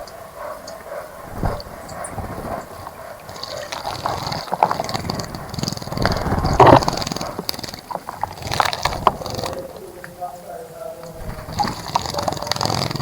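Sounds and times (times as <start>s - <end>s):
birds splashing in water: 0.0s - 13.0s
water dripping: 0.0s - 13.0s.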